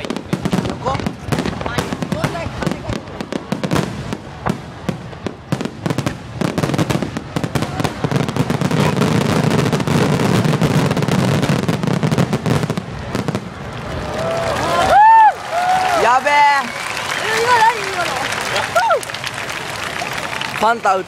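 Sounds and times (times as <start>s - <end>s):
firework crackling: 0.0s - 21.0s.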